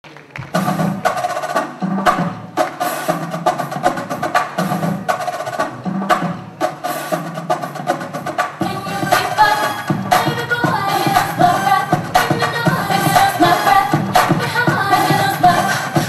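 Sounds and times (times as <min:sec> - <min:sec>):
dance music with percussion: 0:00.3 - 0:16.0.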